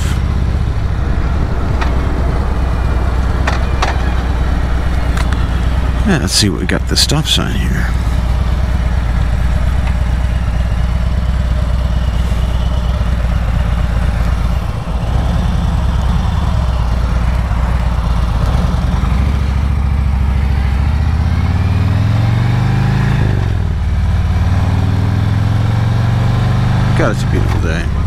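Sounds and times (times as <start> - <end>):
motorcycle engine idling and accelerating: 0.0 - 28.0.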